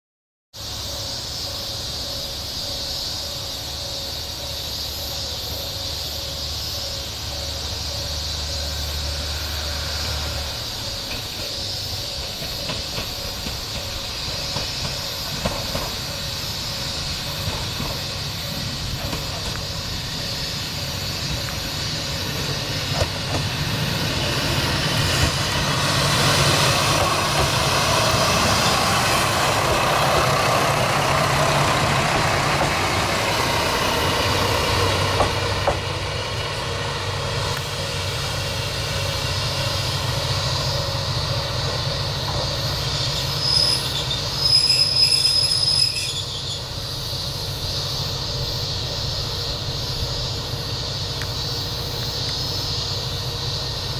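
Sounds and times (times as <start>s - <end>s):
diesel railcar engine passing: 0.6s - 53.9s
wheels clicking on track: 3.6s - 53.9s.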